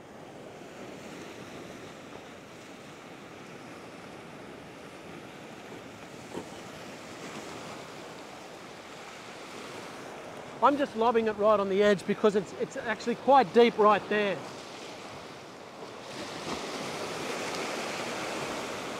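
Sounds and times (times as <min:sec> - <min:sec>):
ocean surf over rock: 0:00.0 - 0:18.9.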